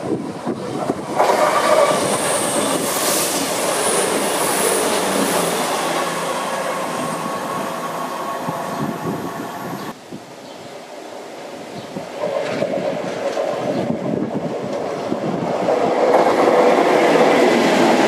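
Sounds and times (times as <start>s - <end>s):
train passing at speed: 0.0s - 10.0s, 10.7s - 18.0s.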